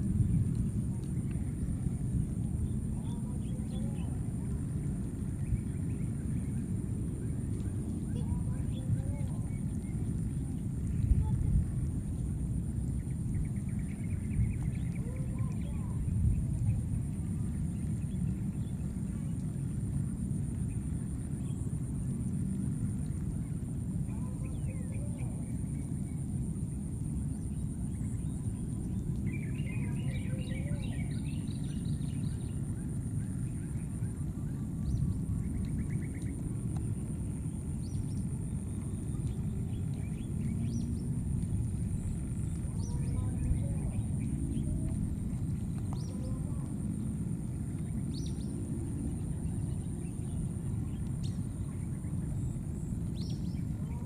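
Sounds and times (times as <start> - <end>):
high insect drone: 0.0 - 54.0
low rumble: 0.0 - 54.0.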